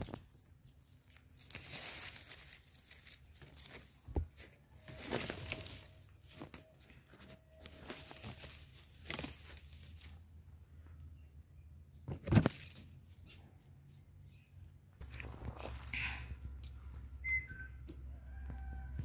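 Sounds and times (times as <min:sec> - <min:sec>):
leaves and twigs rustling: 0:00.0 - 0:11.0, 0:12.1 - 0:19.0.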